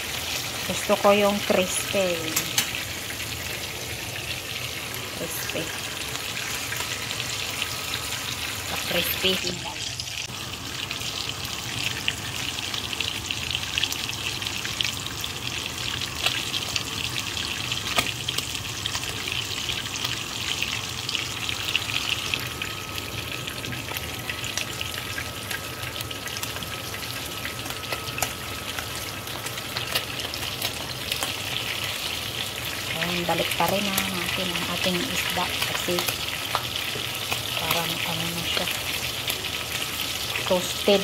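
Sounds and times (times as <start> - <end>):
fish sizzling in frying pan: 0.0 - 41.0
oil crackling and popping: 1.6 - 41.0.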